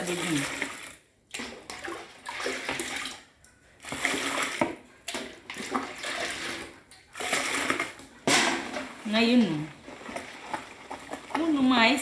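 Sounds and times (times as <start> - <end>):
liquid sloshing as it's stirred: 0.0 - 12.0.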